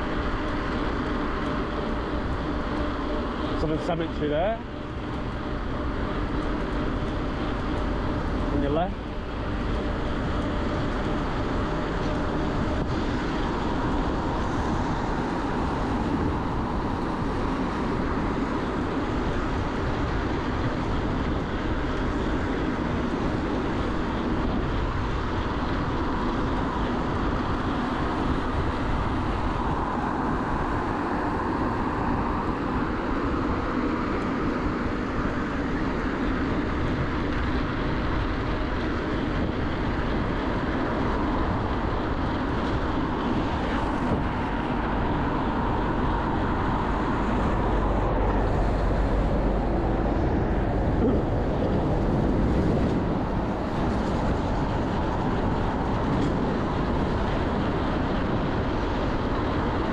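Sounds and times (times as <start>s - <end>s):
wind rush and road noise: 0.0s - 59.9s.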